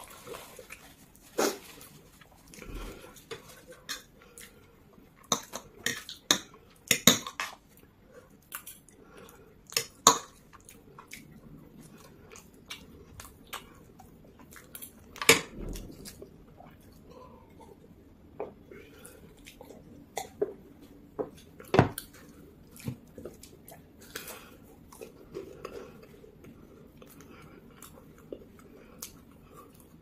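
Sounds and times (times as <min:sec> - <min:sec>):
chewing: 0:00.0 - 0:06.8, 0:07.5 - 0:30.0.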